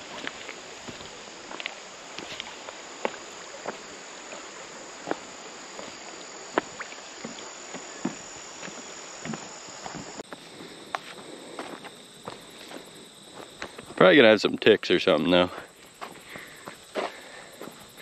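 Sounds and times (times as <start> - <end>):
footsteps on dirt trail: 0.0 - 14.1, 15.7 - 18.0
crickets chirping: 0.0 - 18.0.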